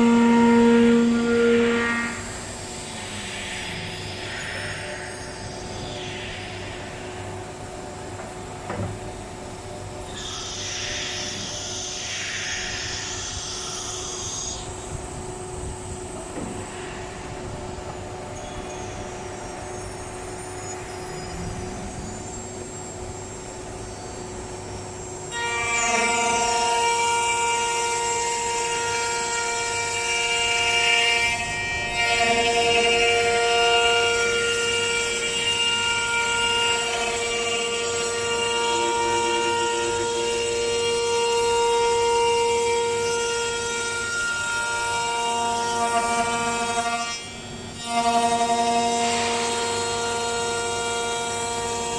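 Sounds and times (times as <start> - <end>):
cnc router mechanical hum: 0.0 - 51.9.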